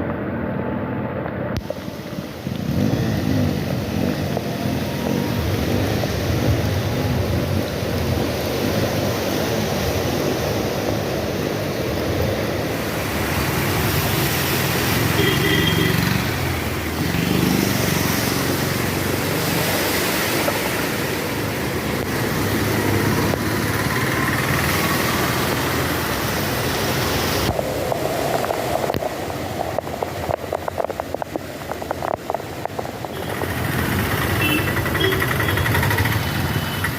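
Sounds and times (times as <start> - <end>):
traffic on wet road: 0.0 - 36.9.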